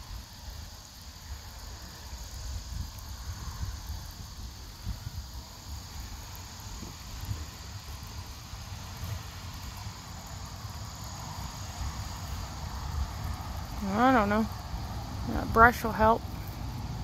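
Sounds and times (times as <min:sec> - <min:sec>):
insects trilling: 0:00.0 - 0:17.0
wind rumble on microphone: 0:00.0 - 0:17.0.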